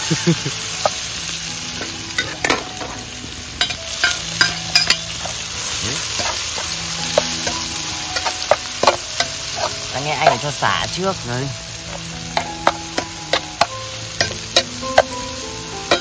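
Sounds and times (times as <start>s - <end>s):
garlic sizzling in hot oil: 0.0s - 16.0s
metal spatula scraping wok: 1.7s - 15.2s.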